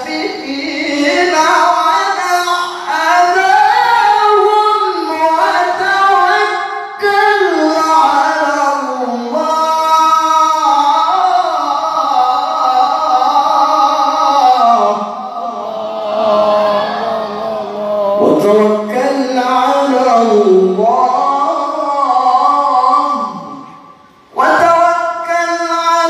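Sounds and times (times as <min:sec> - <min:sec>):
man reciting melodically into microphone: 0:00.0 - 0:26.0.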